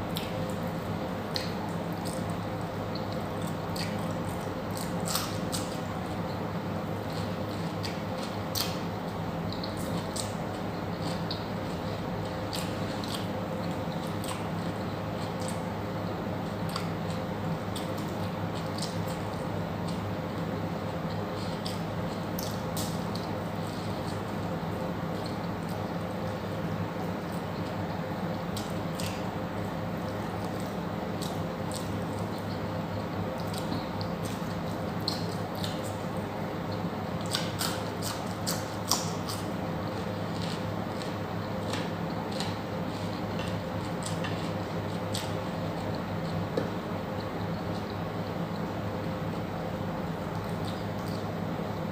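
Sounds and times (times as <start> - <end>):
steady low hum: 0.0 - 51.9
wet chewing mouth sounds: 1.3 - 5.9, 6.9 - 15.6, 16.5 - 20.4, 21.1 - 26.4, 27.0 - 32.6, 33.3 - 46.8, 50.3 - 51.4.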